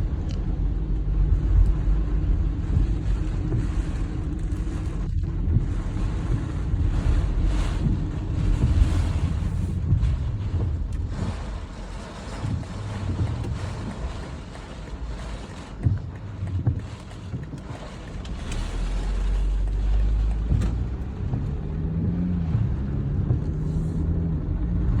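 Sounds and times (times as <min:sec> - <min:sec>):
gusty wind buffeting microphone: 0:00.0 - 0:25.0
low steady hum: 0:00.0 - 0:25.0.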